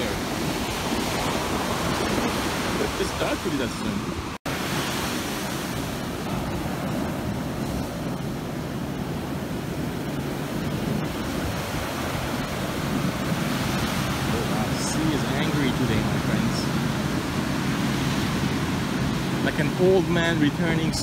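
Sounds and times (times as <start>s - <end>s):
waves breaking on shore: 0.0s - 21.0s.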